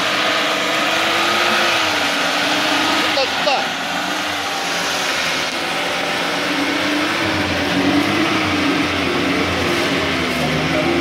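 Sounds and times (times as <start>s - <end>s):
winch motor and engine droning: 0.0s - 11.0s.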